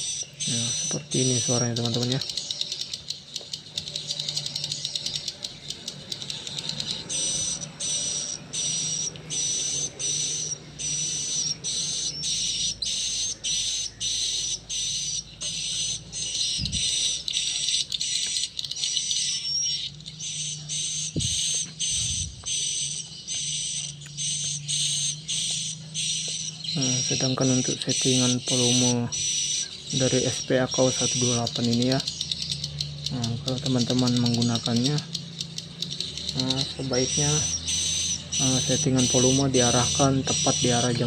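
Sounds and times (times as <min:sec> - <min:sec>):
recorded swiftlet calls: 0:00.0 - 0:41.0
faint low hum: 0:00.4 - 0:41.0.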